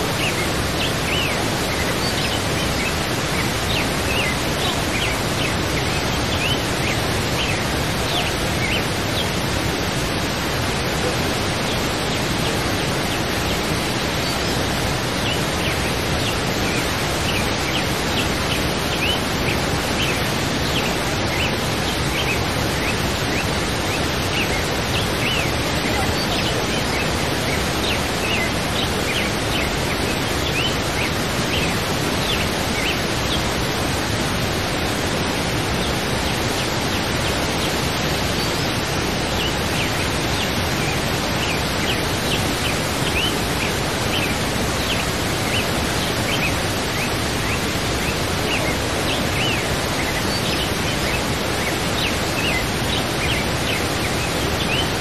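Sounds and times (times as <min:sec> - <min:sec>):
birds chirping: 0:00.0 - 0:55.0
waterfall rushing: 0:00.0 - 0:55.0.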